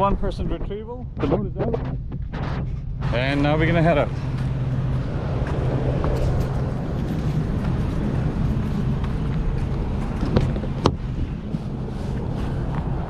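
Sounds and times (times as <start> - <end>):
truck engine running: 1.4 - 13.0.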